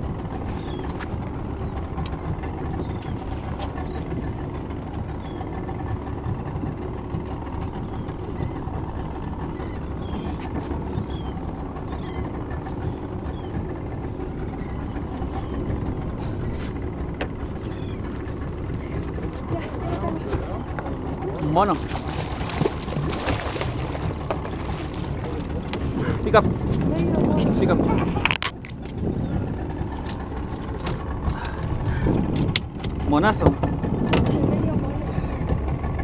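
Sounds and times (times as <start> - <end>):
boat motor running: 0.0 - 36.0
water noise: 0.0 - 36.0
wind: 0.0 - 36.0.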